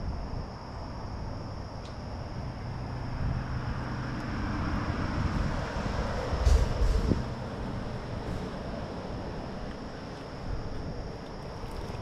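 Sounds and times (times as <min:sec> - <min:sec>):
high insect hum: 0:00.0 - 0:12.0.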